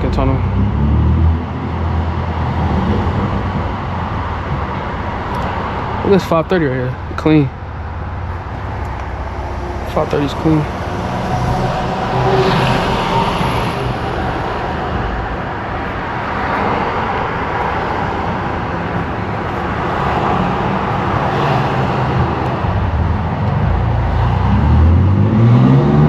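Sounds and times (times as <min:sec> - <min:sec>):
car engine low rumble: 0:00.0 - 0:26.0
city traffic noise: 0:00.0 - 0:26.0.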